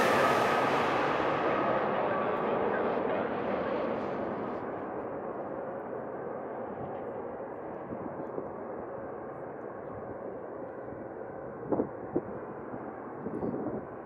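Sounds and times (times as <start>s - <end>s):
distant jet engine roar: 0.0s - 13.2s.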